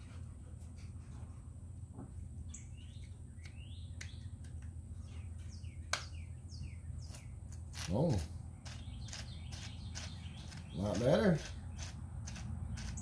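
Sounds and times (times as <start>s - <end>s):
steady low hum: 0.0s - 13.0s
birds chirping: 2.1s - 13.0s.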